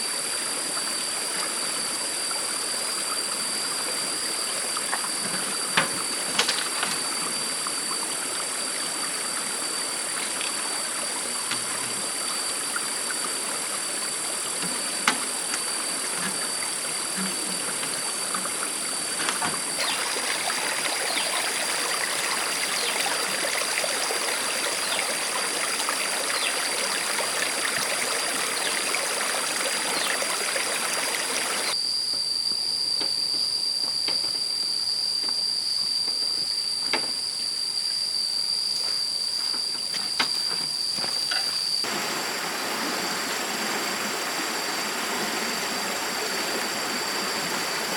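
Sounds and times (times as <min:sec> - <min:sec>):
stream water running: 0:00.0 - 0:31.8, 0:40.5 - 0:47.9
insects buzzing: 0:00.0 - 0:47.9.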